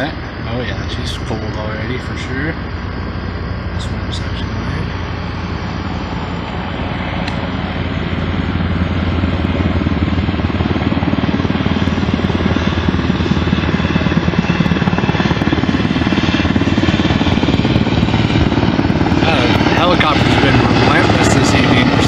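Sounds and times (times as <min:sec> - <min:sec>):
heat pump unit humming: 0:00.0 - 0:21.0
helicopter rotor beat: 0:00.0 - 0:22.0.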